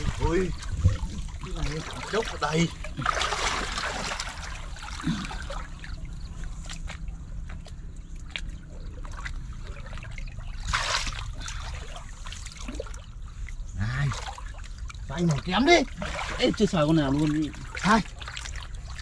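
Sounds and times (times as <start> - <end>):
muddy water sloshing: 0.0 - 19.0
small water splashes: 0.0 - 19.0.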